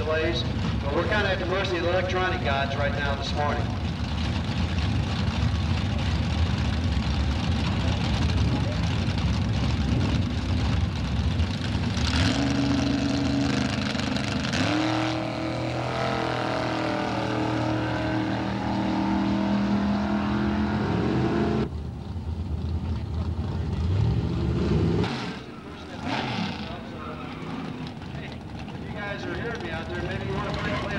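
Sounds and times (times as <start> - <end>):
cars accelerating at full throttle: 0.0 - 30.9
drag racing car engines rumbling: 0.0 - 30.9.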